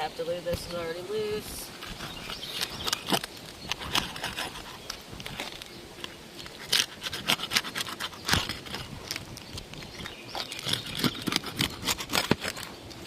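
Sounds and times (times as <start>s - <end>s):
tool scraping under shingles: 1.7s - 13.0s
shingles clicking and crackling: 1.8s - 13.0s.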